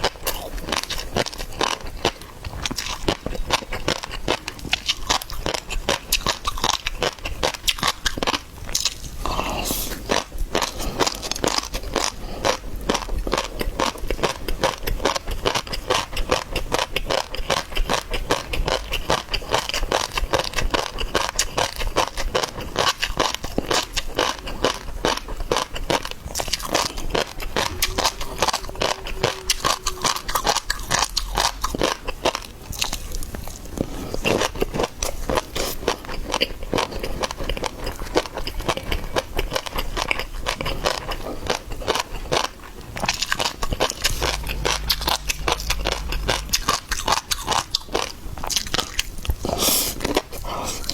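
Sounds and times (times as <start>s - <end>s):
person chewing crunchy food: 0.0s - 50.9s.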